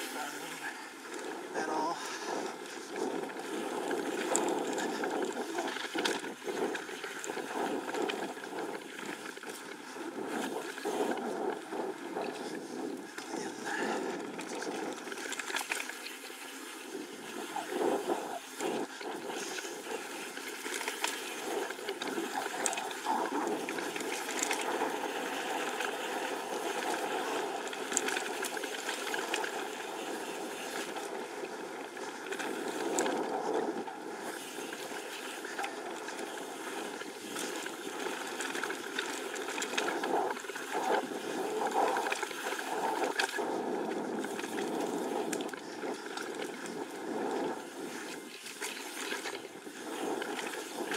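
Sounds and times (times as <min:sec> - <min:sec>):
bike tyres on dirt trail: 0:00.0 - 0:50.9.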